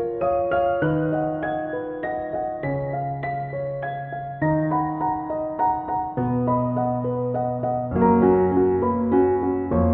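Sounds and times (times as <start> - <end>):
soft piano music: 0.0 - 9.9.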